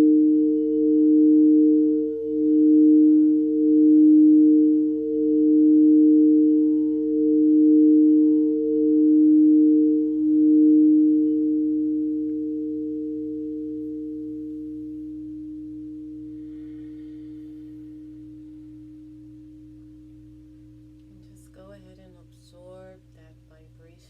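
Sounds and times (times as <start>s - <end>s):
struck instrument ringing tones: 0.0s - 21.8s.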